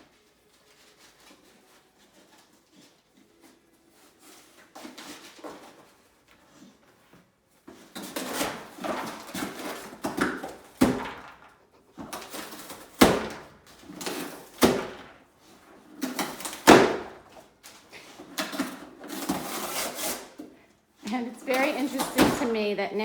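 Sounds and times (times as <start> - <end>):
dog ripping cardboard: 0.0 - 6.9, 7.6 - 22.5.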